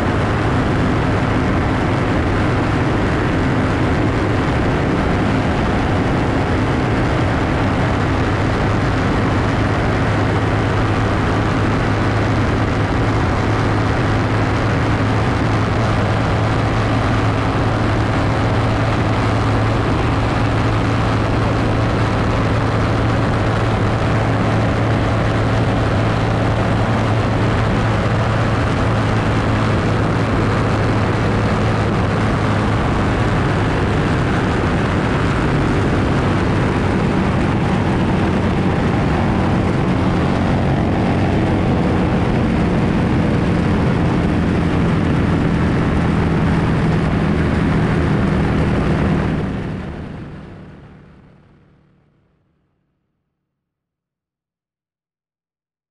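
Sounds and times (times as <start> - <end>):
wind rush: 0.0 - 51.4
motorcycle engine running hard: 0.0 - 52.0.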